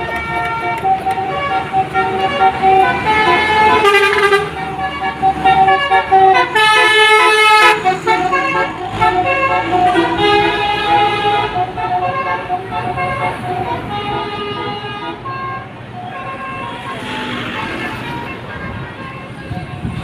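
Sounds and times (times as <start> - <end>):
musical bus horn playing tune: 0.0 - 20.0.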